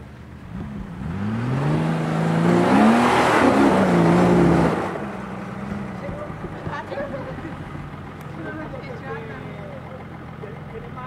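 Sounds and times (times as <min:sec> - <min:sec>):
car engine revving under load: 0:00.0 - 0:10.8.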